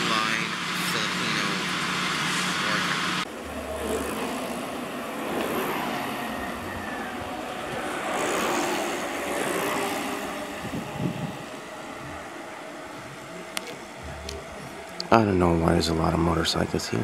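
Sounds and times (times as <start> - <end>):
motorcycles passing: 0.0 - 17.0.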